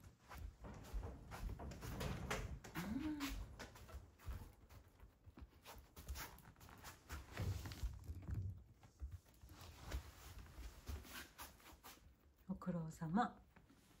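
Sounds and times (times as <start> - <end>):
soft footsteps on tatami mats: 0.0 - 12.4.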